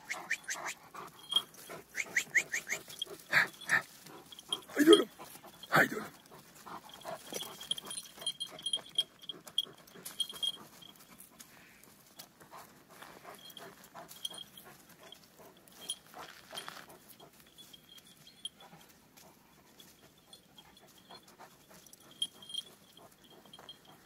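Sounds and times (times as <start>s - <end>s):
dog panting faintly: 0.0s - 24.0s.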